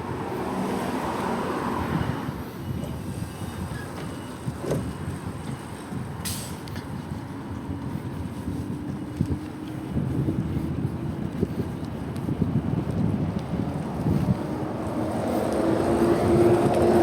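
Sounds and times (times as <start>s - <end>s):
road traffic passing: 0.0s - 17.0s
wind rumbling on microphone: 0.0s - 17.0s.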